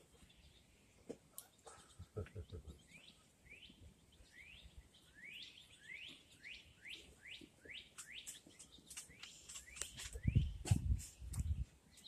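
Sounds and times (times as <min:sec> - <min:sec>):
faint bird song: 0:00.0 - 0:12.0.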